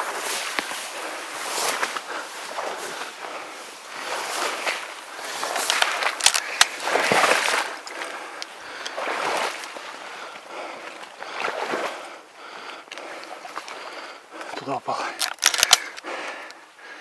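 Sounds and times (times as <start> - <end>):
oars splashing through water: 0.0 - 16.5.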